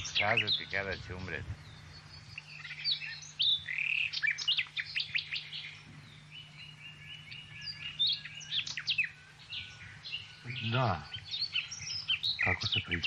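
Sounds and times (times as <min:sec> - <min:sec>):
bird trill: 0:00.0 - 0:13.0
faint low hum: 0:00.0 - 0:13.0
songbirds chirping: 0:00.0 - 0:13.0.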